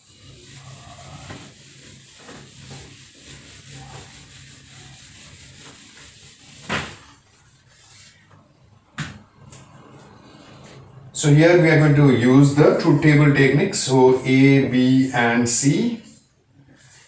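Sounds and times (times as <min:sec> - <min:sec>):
eraser wiping a whiteboard: 0:00.0 - 0:08.3, 0:11.4 - 0:17.0.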